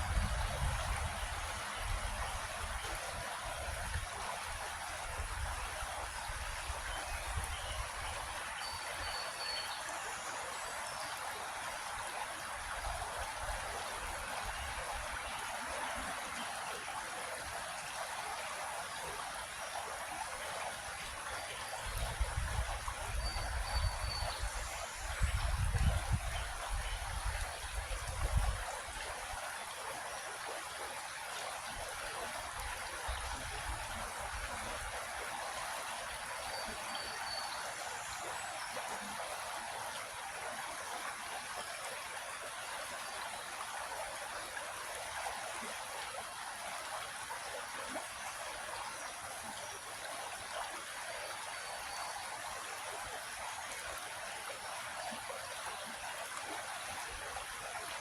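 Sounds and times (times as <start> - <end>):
creek water babbling: 0.0 - 58.0.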